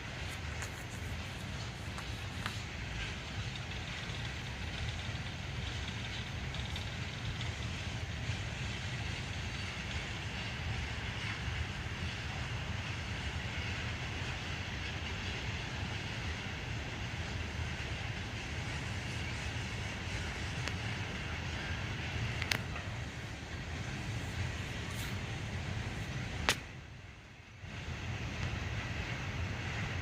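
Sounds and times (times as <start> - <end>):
freight train rumbling on track: 0.0 - 30.0.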